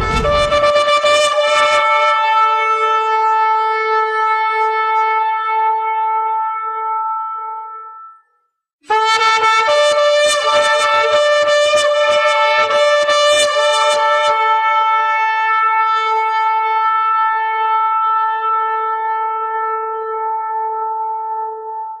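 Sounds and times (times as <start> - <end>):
shofar blasts: 0.0 - 8.2, 8.9 - 21.9.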